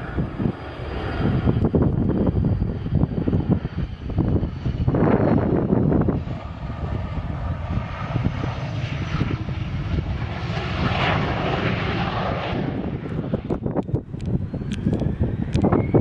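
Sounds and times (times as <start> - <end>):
jet engines running with whine: 0.0 - 16.0
wind buffeting microphone: 0.0 - 16.0.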